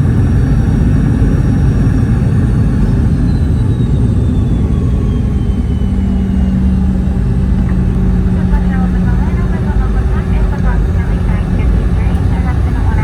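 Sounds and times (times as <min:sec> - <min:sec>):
airplane cabin engine rumble: 0:00.0 - 0:13.0
faint falling whine: 0:00.0 - 0:13.0
steady low hum: 0:00.0 - 0:13.0.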